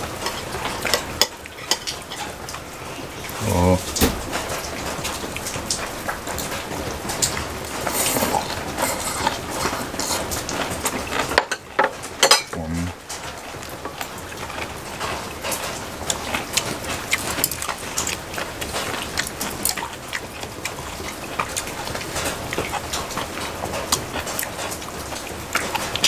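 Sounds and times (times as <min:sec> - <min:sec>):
eating with chopsticks from a bowl: 0:00.0 - 0:26.0
steady rain falling: 0:00.0 - 0:26.0.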